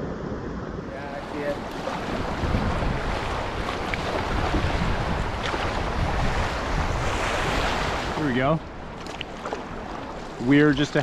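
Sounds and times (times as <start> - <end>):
wind buffeting microphone: 0.0 - 11.0
river water rushing and splashing: 0.9 - 11.0.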